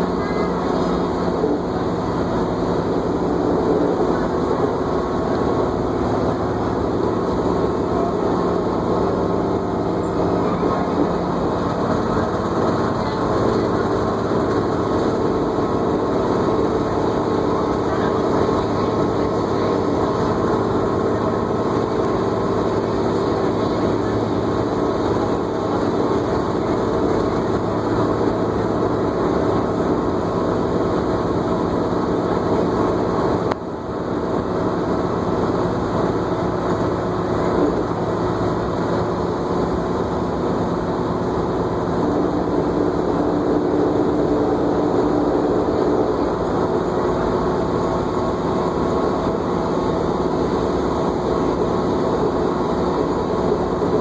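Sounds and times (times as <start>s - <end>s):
bus engine drone: 0.0s - 54.0s
drivetrain whine: 0.0s - 54.0s
road noise: 0.0s - 54.0s.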